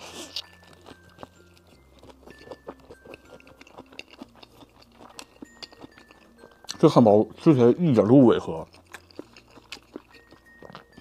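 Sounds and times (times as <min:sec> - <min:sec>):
close chewing of burger: 0:00.0 - 0:11.0
soft background music: 0:00.0 - 0:11.0.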